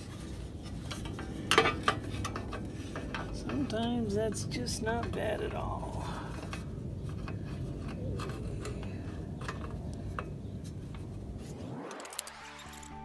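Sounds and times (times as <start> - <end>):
wind rumbling on microphone: 0.0 - 12.0
hands clicking and scraping parts: 0.0 - 13.0.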